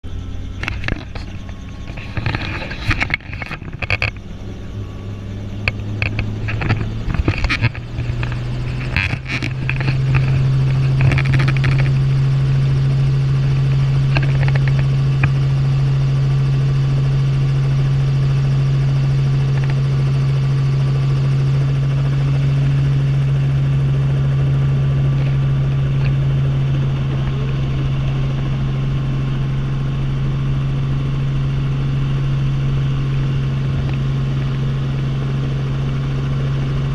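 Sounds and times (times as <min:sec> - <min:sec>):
helicopter rotor drone: 0:00.0 - 0:36.9.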